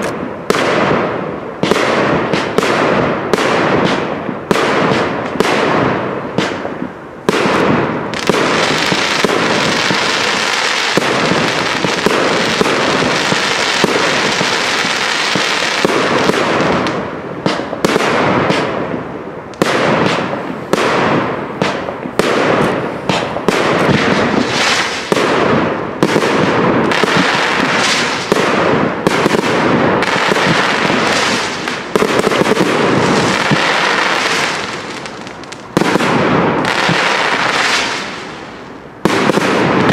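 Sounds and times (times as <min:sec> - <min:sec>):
fireworks launches and bursts: 0:00.0 - 0:39.9.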